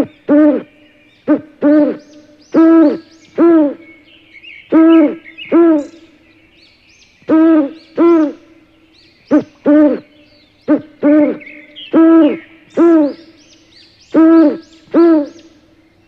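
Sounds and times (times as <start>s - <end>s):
owl hooting: 0.0s - 4.0s, 4.6s - 6.2s, 7.3s - 8.6s, 9.3s - 15.8s
faint bird chirps: 0.0s - 16.0s.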